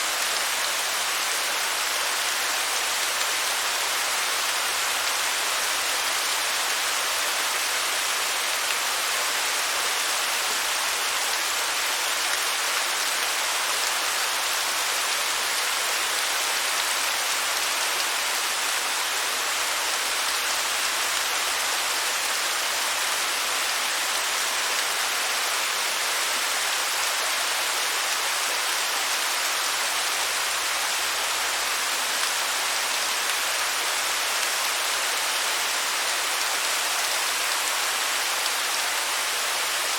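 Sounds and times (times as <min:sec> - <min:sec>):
waterfall hiss: 0:00.0 - 0:39.9.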